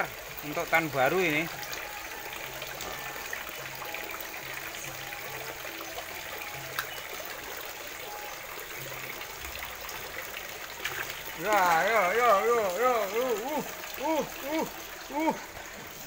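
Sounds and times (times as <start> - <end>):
trickle of running water: 0.0 - 16.0.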